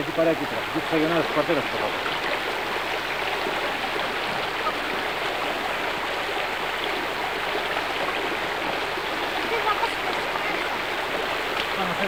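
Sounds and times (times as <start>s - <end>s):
stream rippling over stones: 0.0s - 12.0s.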